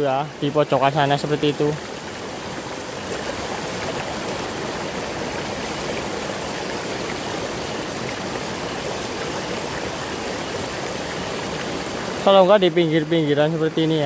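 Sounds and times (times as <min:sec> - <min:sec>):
stream rushing over stones: 0:00.0 - 0:14.0.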